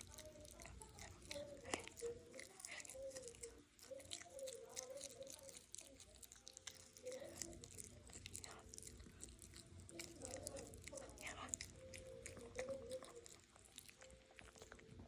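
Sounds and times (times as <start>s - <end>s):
pet chewing a treat: 0.0s - 15.0s.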